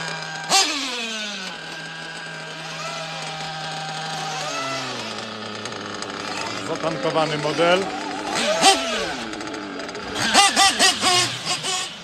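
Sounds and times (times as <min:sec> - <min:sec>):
small engine buzzing idle: 0:00.0 - 0:12.0
small engines revving: 0:00.0 - 0:12.0.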